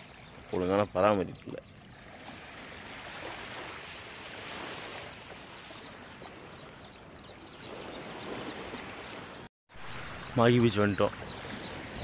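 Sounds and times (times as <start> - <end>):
small waves washing on sand: 0.0 - 12.0.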